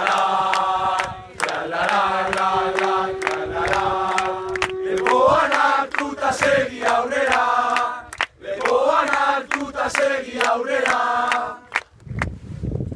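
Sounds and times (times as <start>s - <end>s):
crowd singing in unison: 0.0s - 11.8s.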